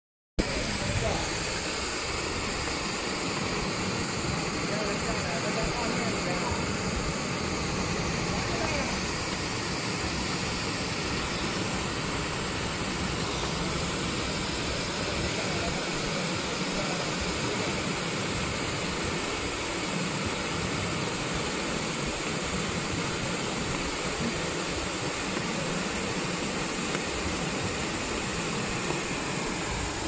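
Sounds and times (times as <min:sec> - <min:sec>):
waterfalls rushing: 0:00.4 - 0:30.0.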